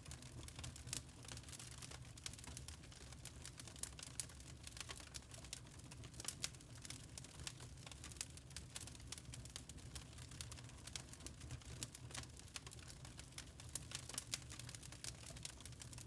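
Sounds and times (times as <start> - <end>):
burning charcoal crackling: 0.0 - 16.0.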